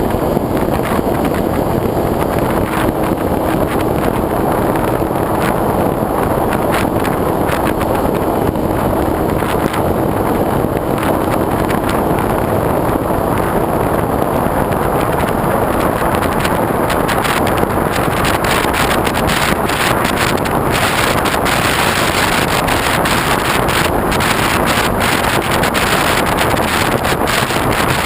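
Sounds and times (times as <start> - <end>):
wind buffeting camera: 0.0 - 28.0.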